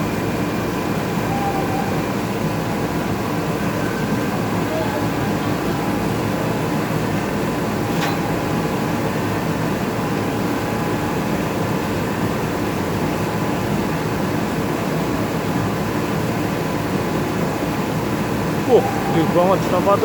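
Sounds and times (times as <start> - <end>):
heavy vehicle engine rumble: 0.0 - 20.0.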